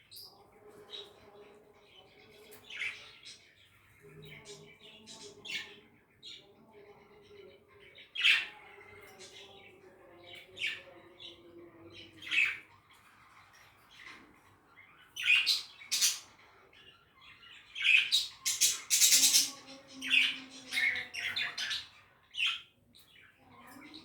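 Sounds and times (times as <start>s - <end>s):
budgerigars chirping and squawking: 0.0s - 24.0s.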